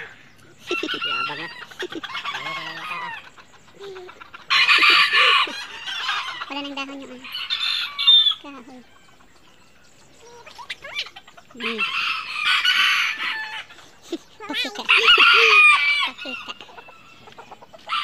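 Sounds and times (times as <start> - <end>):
roosters crowing: 0.0 - 9.5, 10.4 - 18.0.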